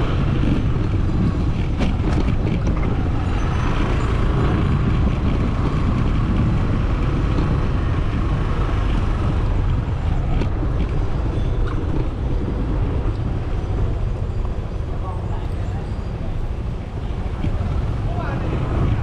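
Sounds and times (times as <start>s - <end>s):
motorcycle engine rumble: 0.0s - 19.0s
road noise: 0.0s - 19.0s.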